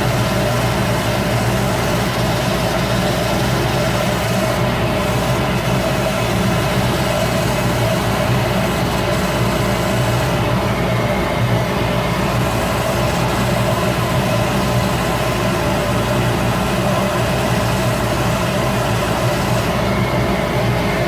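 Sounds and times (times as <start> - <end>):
wood lathe running: 0.0 - 11.2, 11.8 - 20.6.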